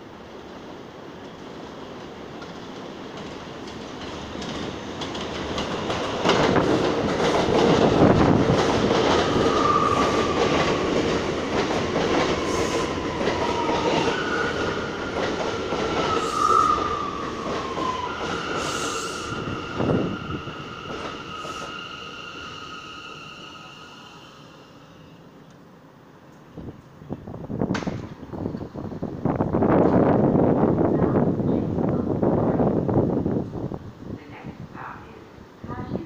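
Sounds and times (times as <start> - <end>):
train whining: 0.0 - 36.0
train wheels rumbling on rails: 1.1 - 24.4, 26.6 - 36.0.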